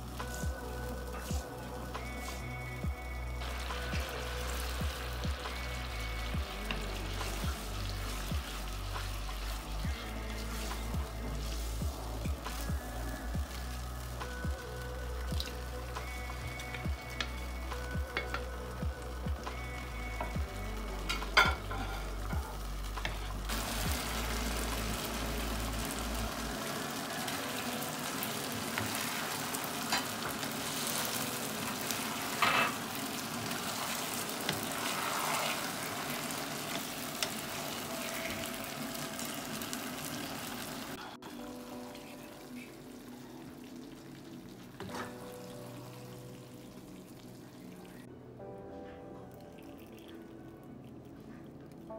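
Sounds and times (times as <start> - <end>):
food sizzling in a frying pan: 0.0 - 48.1.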